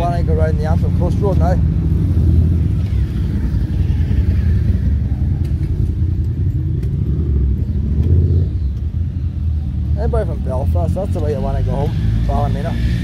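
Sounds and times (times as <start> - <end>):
motorcycle passing: 0.0 - 13.0
road traffic rumble: 0.0 - 13.0.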